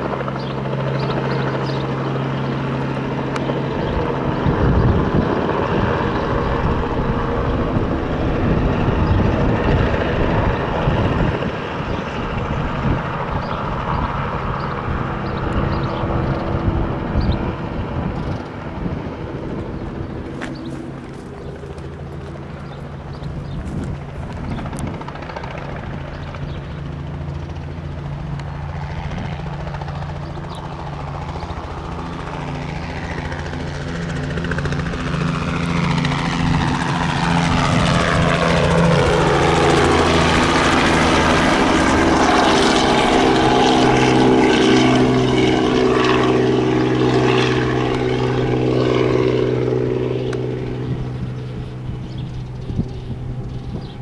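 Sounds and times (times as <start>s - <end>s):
helicopter flying past: 0.0s - 54.0s.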